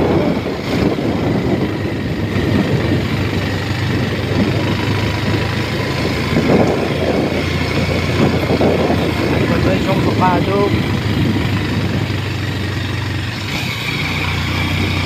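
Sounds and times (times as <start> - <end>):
dense rushing noise: 0.0 - 15.0
vehicle engine running: 0.0 - 15.0.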